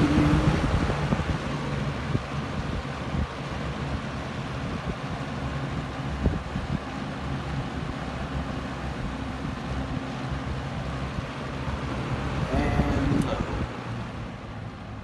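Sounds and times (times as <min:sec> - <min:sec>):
box fan running: 0:00.0 - 0:14.8.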